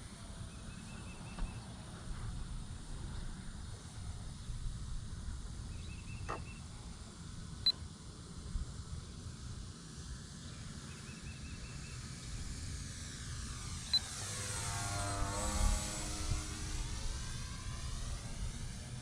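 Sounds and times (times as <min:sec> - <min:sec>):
model plane electric motor whine: 0:00.0 - 0:19.0.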